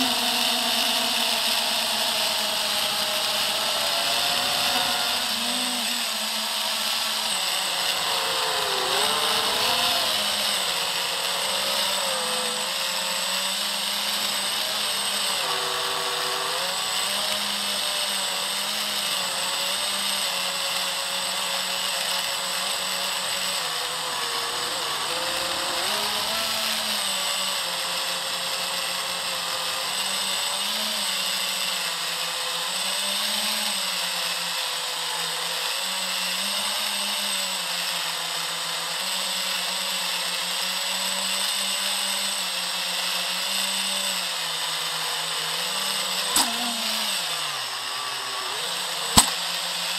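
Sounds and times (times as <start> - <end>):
drone motors whining: 0.0 - 39.4, 40.2 - 49.9.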